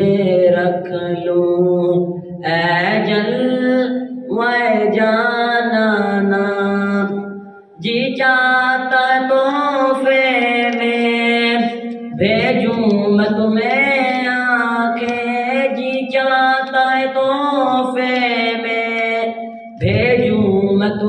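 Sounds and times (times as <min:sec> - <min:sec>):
boy singing unaccompanied: 0:00.0 - 0:07.2, 0:07.8 - 0:21.0.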